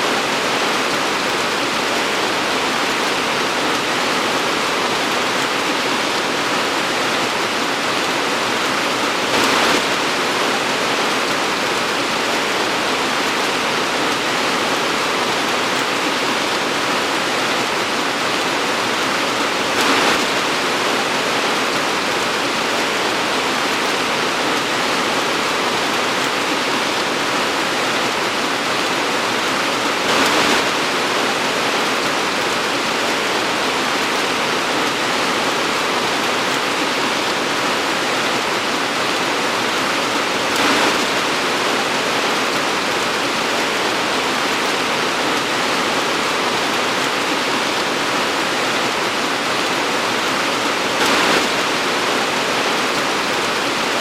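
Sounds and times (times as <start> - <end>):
torrential rain: 0.0 - 54.0.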